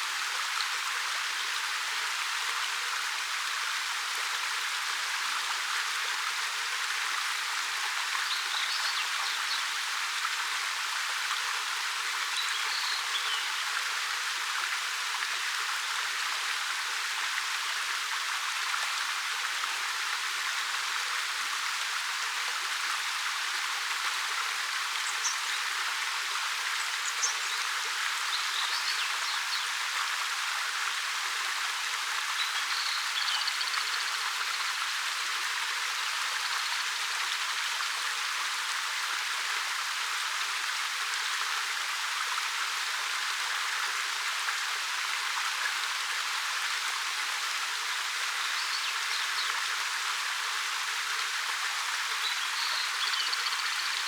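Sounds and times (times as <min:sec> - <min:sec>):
waterfall pouring over rock: 0:00.0 - 0:54.0.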